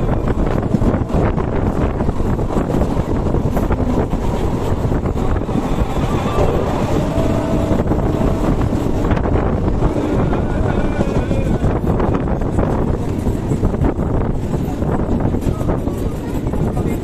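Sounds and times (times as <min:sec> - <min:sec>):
train rumbling and clattering on rails: 0:00.0 - 0:17.0
wind on microphone: 0:00.0 - 0:17.0.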